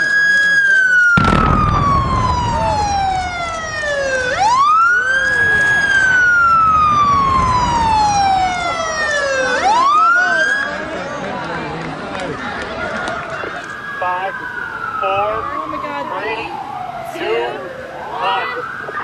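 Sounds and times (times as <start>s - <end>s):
warning siren wailing: 0.0s - 11.3s, 13.4s - 19.0s.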